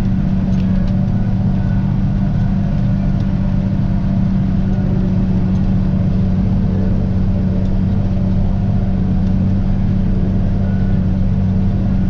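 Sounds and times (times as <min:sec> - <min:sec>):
harvester machinery: 0:00.0 - 0:12.0
tractor engine drone: 0:00.0 - 0:12.0.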